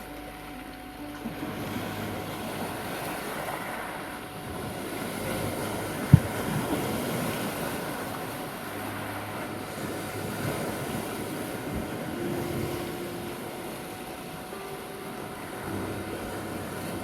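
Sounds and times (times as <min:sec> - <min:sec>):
sea waves washing ashore: 0:00.0 - 0:17.0
wind: 0:00.0 - 0:17.0.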